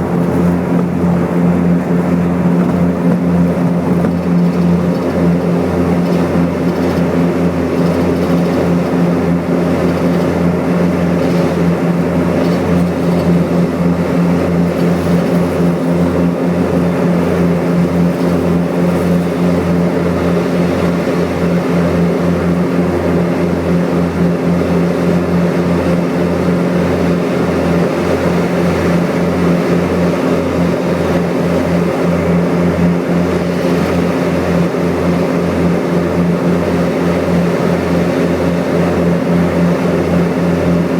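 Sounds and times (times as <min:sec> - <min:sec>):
propeller aircraft engines droning: 0:00.0 - 0:40.9.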